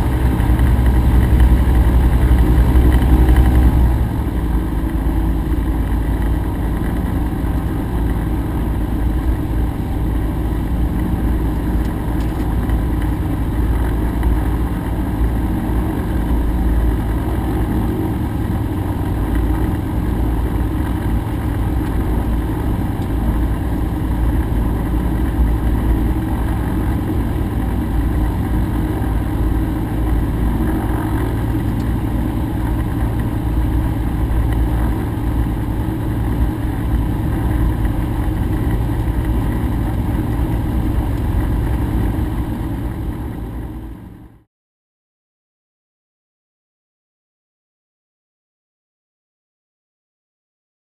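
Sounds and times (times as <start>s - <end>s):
light aircraft engine running: 0.0s - 44.5s.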